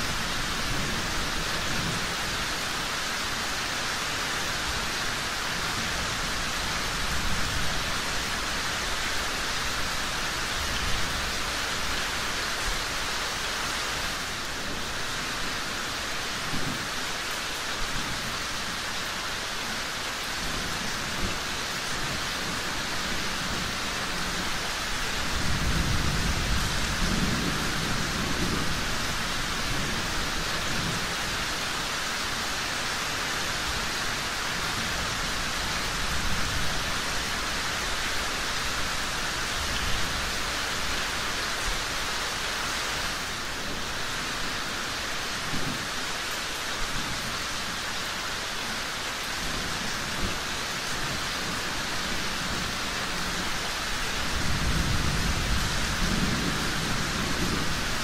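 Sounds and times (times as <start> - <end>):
dense rainfall: 0.0 - 58.0.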